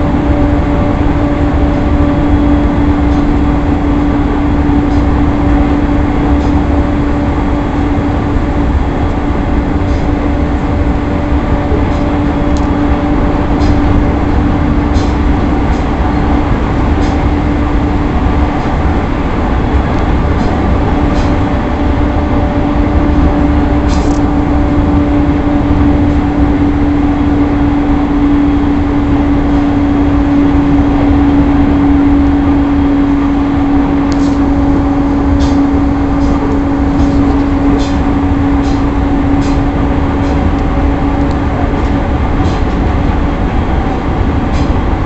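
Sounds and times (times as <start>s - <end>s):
steady hum: 0.0s - 45.0s
train wheels rumbling on rail: 0.0s - 45.0s.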